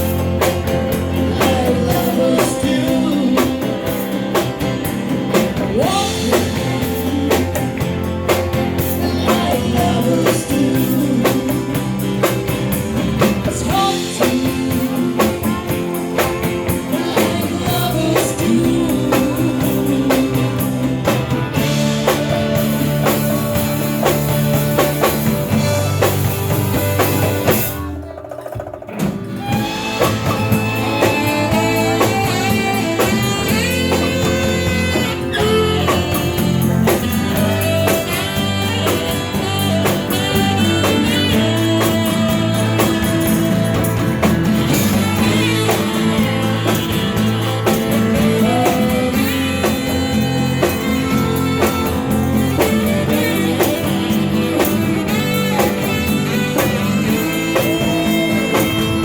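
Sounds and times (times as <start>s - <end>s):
electric guitar bending notes: 0.0s - 28.3s, 28.9s - 59.0s
drum kit: 0.0s - 59.0s
live band playing: 0.0s - 59.0s
woman singing: 0.9s - 4.6s, 5.3s - 15.8s, 16.7s - 22.4s, 29.6s - 43.6s, 44.7s - 59.0s.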